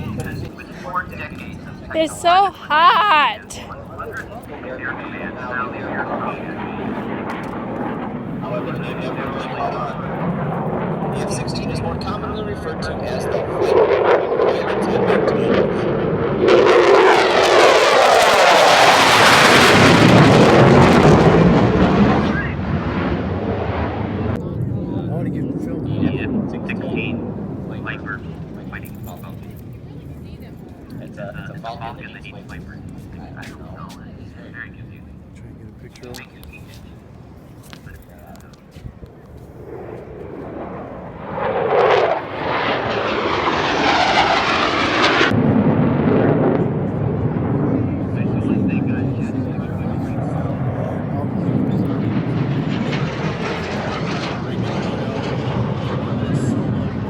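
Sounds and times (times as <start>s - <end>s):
jet flying past: 0.0s - 35.1s, 35.9s - 57.0s.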